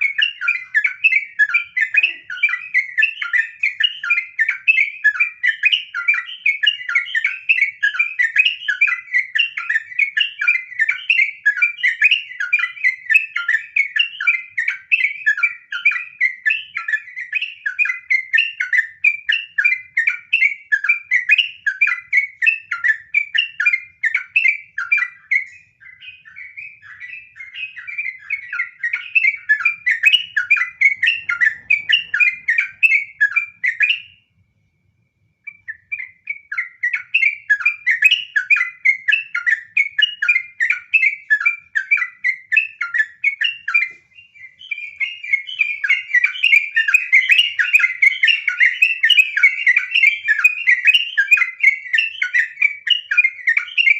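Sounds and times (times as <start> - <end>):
bird chattering song: 0.0 - 34.3, 35.4 - 53.9.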